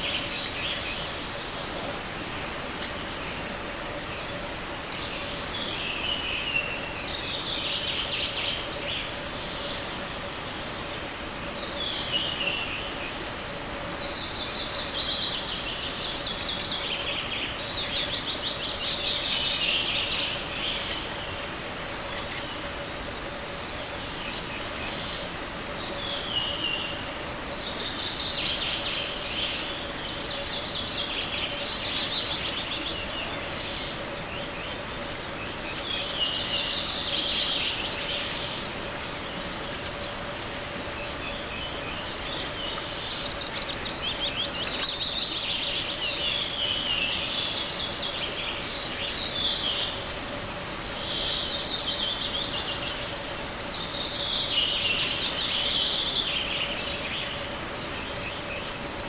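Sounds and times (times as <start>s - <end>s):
forest stream rushing: 0.0s - 59.0s
songbirds trilling: 0.0s - 59.0s.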